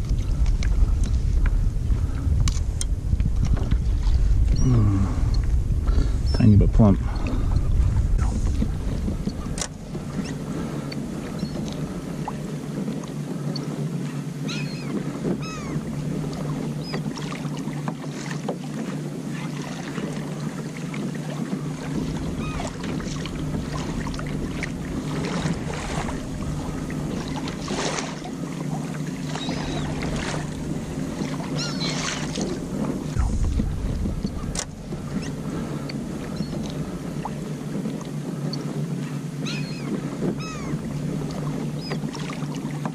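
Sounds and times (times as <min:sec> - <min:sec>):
water lapping against kayak hull: 0:00.0 - 0:42.9
wind rumbling on microphone: 0:00.0 - 0:42.9.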